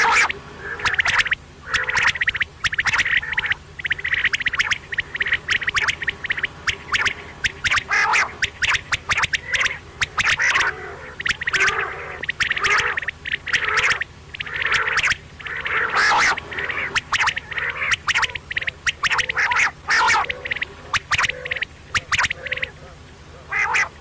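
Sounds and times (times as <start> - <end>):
faint low hum: 0.0 - 24.0
quail clicking chatter: 0.0 - 24.0.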